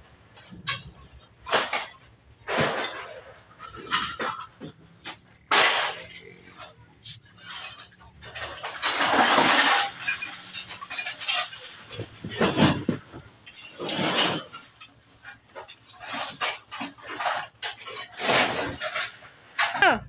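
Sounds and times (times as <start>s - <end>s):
scrap metal clanking and crashing: 0.0s - 20.0s.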